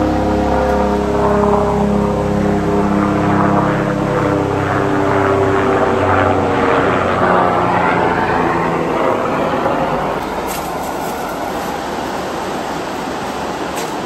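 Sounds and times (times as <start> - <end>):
engine drone passing by: 0.0 - 14.0.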